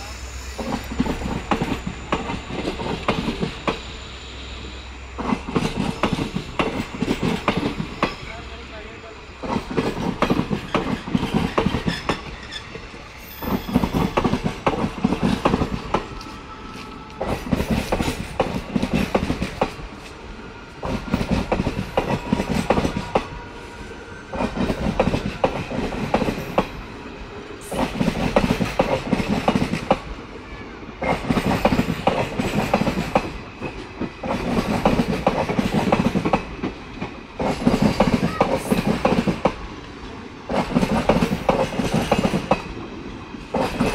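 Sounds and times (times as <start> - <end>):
train wheels clattering over joints: 0.6 - 3.9, 5.2 - 8.4, 9.4 - 20.2, 20.8 - 23.3, 24.3 - 26.8, 27.7 - 30.1, 31.0 - 39.7, 40.5 - 42.8, 43.4 - 43.9.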